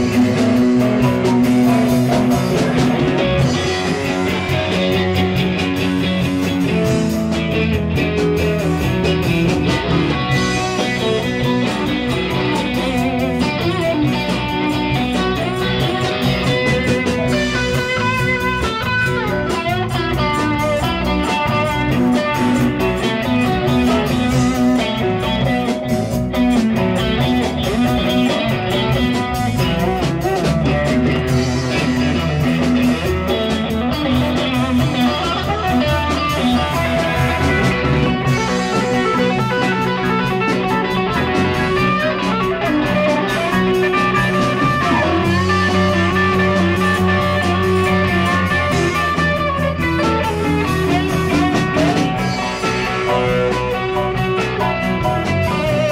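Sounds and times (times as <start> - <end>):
electric guitar: 0.0 - 55.9
live rock band playing: 0.0 - 55.9.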